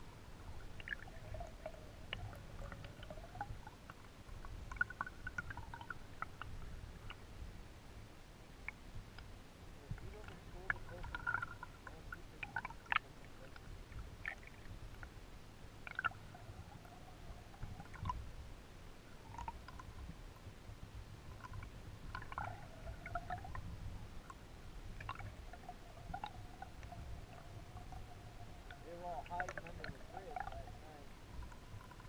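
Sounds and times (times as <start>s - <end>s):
low underwater rumble: 0.0s - 32.0s.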